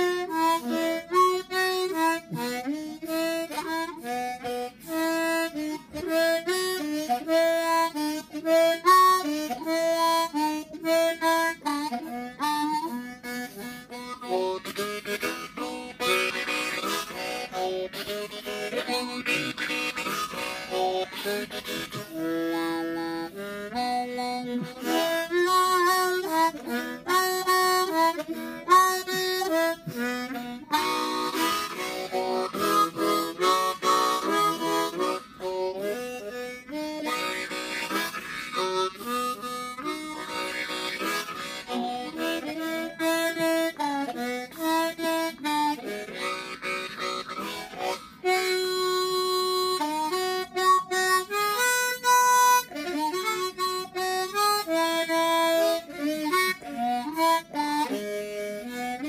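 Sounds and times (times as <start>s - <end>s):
solo harmonica melody: 0.0s - 59.0s.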